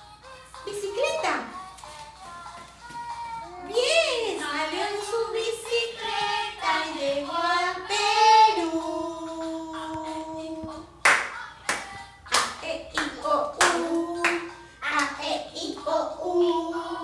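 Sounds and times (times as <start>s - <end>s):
woman and girl singing: 0.0s - 17.0s.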